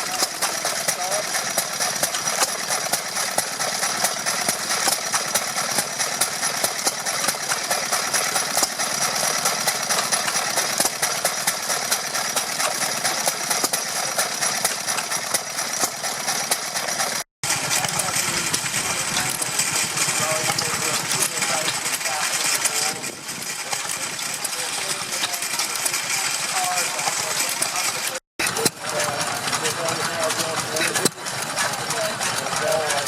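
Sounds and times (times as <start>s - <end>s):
stationary engines clattering: 0.0s - 33.0s.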